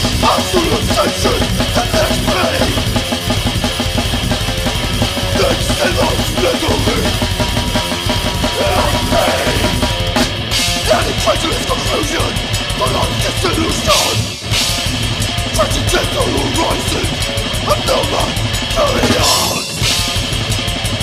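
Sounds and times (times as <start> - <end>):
distorted electric guitar: 0.0 - 21.0
drum kit playing: 0.0 - 21.0.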